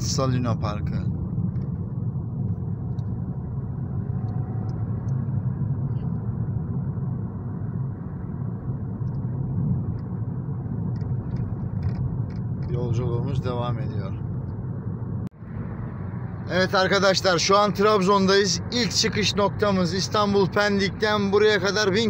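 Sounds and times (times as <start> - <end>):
car cabin engine and road rumble: 0.0 - 22.0.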